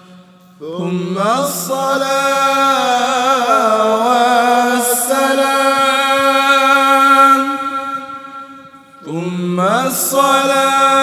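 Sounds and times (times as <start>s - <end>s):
person singing unaccompanied chant: 0.0s - 11.0s.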